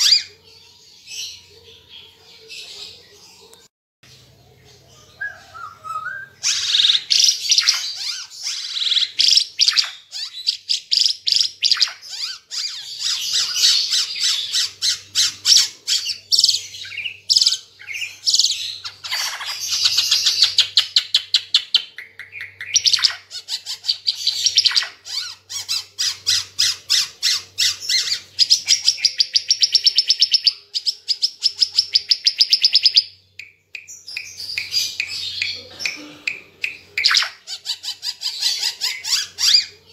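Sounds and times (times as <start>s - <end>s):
bird chattering song: 2.4s - 39.9s.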